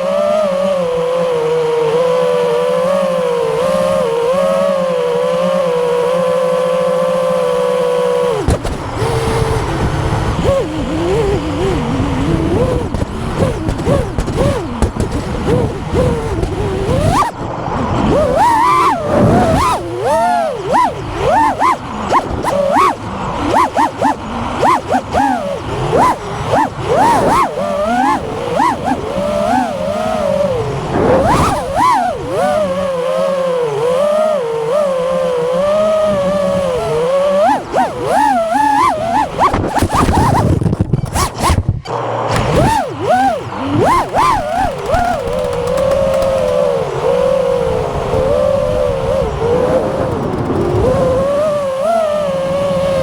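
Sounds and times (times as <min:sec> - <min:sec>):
quadcopter motors whining: 0:00.0 - 0:53.0.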